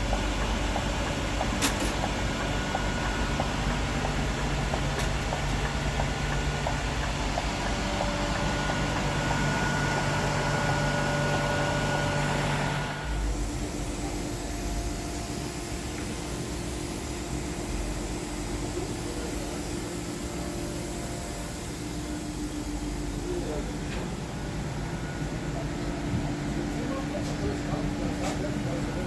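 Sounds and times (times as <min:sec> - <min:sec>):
electric bus motor hum: 0:00.0 - 0:29.0.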